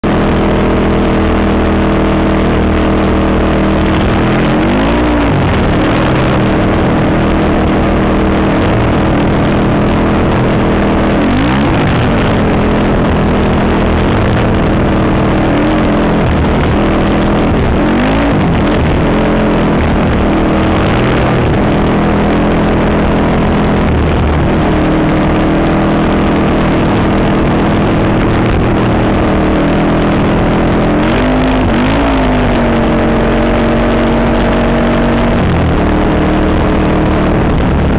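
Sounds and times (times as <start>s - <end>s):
quad engine revving: 0.0s - 37.9s.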